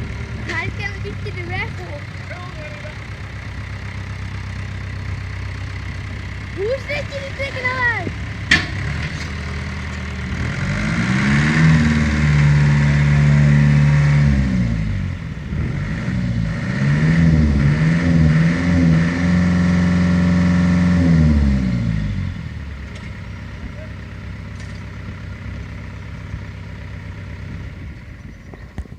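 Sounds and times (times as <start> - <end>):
tractor engine revving: 0.0 - 28.9.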